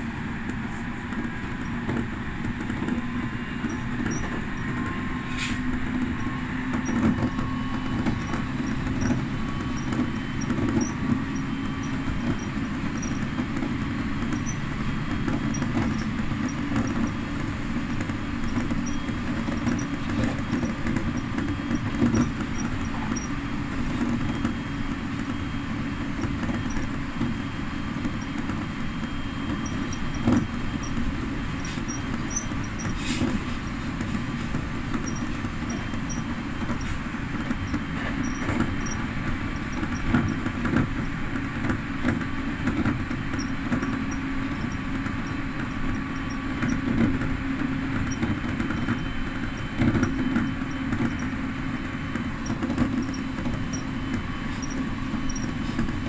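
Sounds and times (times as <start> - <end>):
electric train running: 0.0 - 56.0.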